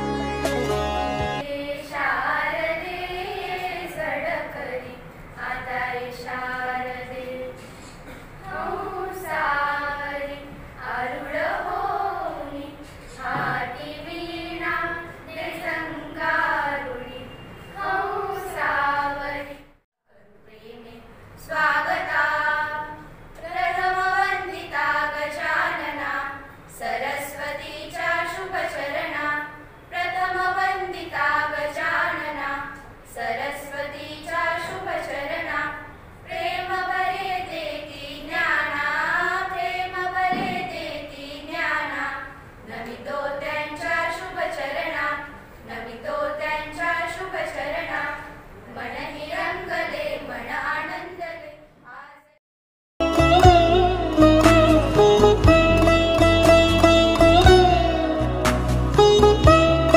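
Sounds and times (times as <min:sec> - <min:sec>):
girls singing in unison: 0:01.4 - 0:19.8, 0:20.5 - 0:52.4.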